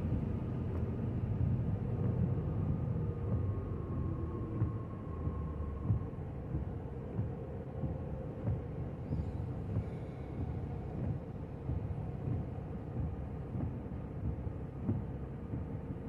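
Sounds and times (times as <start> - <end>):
car road and engine rumble: 0.0 - 16.0
faint constant hum: 0.0 - 16.0.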